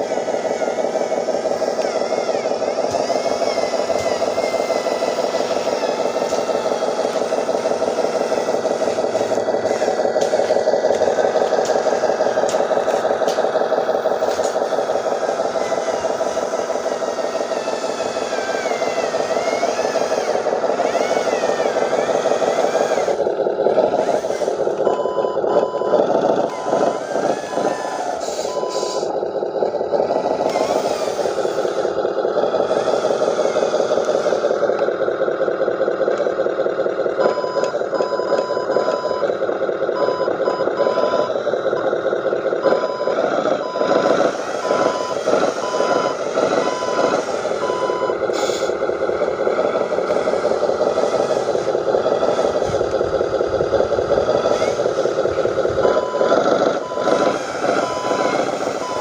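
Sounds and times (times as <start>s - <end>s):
reversing beeper: 0.0s - 23.2s, 24.2s - 29.2s, 37.1s - 59.0s
toy truck motor droning: 0.0s - 59.0s.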